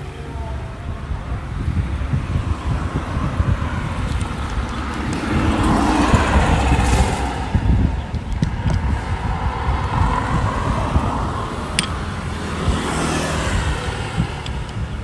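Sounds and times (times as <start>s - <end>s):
motor vehicle running: 0.0s - 15.0s.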